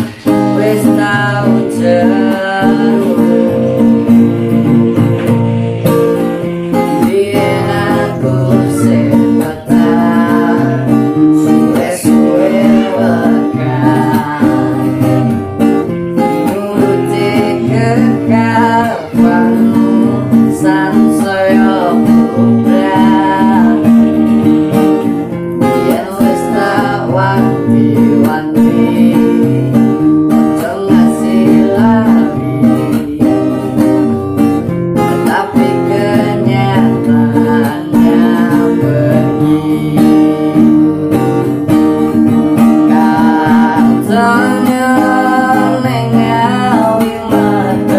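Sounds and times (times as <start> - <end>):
man singing: 0.0 - 34.4, 35.0 - 47.9
acoustic guitar strumming: 0.0 - 47.9.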